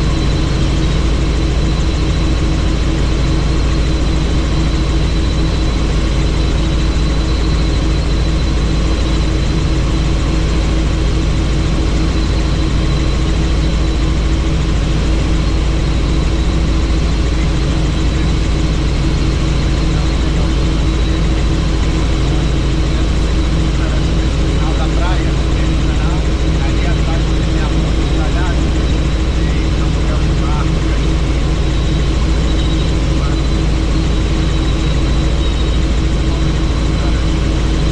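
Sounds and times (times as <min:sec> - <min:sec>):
helicopter engine and rotors drone: 0:00.0 - 0:37.9
steady whine: 0:00.0 - 0:37.9.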